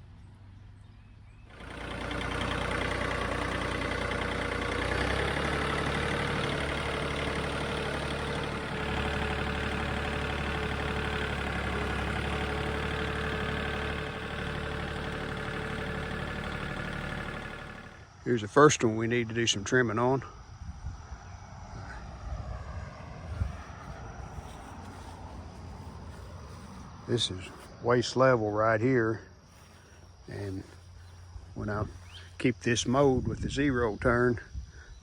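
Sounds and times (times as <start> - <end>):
tractor diesel engine running: 0.0 - 19.8, 22.9 - 34.2.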